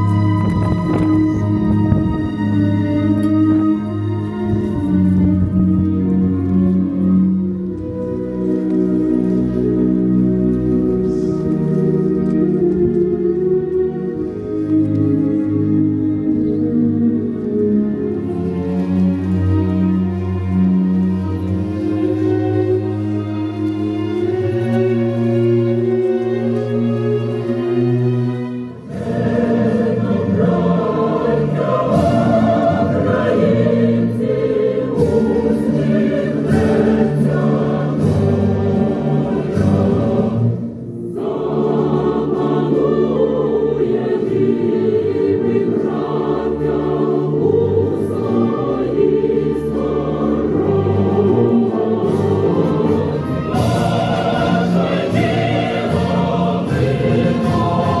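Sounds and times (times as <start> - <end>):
choir singing long held notes: 0.0 - 58.0.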